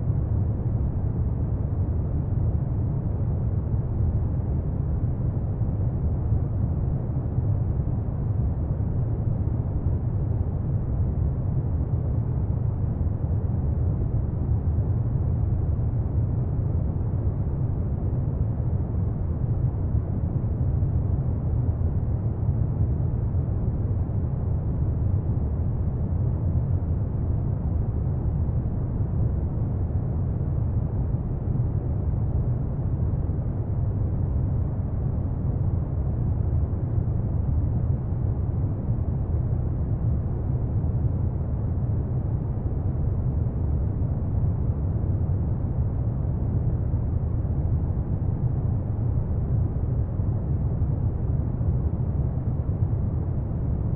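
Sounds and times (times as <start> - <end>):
deep rumbling brown noise: 0.0 - 53.9.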